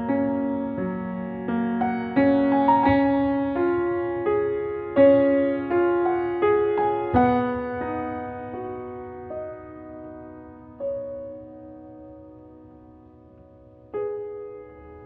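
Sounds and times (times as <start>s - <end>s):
piano notes and chords: 0.0s - 15.0s.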